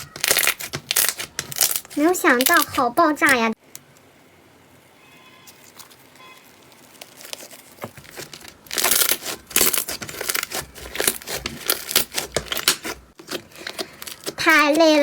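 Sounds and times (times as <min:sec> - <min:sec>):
slime being kneaded by hand: 0:00.0 - 0:03.4, 0:05.6 - 0:15.0.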